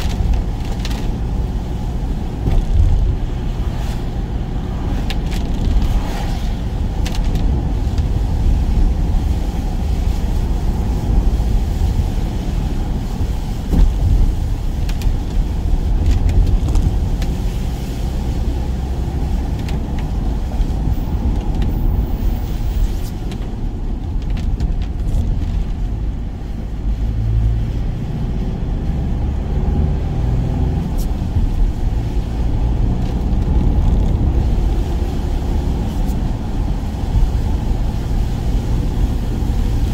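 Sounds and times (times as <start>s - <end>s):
van road and engine rumble: 0.0s - 39.9s.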